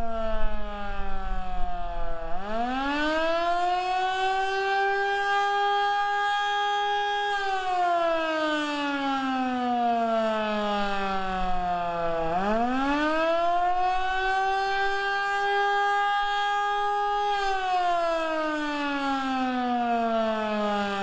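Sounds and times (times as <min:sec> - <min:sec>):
warning siren tone: 0:00.0 - 0:21.0.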